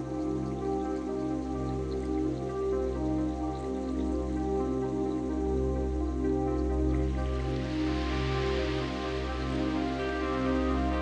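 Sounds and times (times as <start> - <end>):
ambient synthesizer drones: 0.0 - 11.0
low bass drone: 0.0 - 11.0
soft hiss: 0.0 - 11.0.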